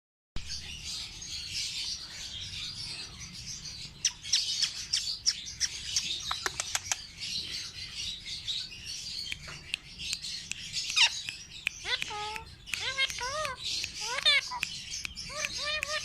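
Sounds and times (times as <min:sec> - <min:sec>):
lovebirds twittering: 0:00.4 - 0:16.0.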